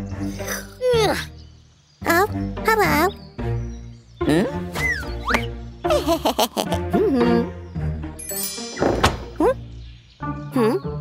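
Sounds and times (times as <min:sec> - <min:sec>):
cartoon background music: 0:00.0 - 0:11.0.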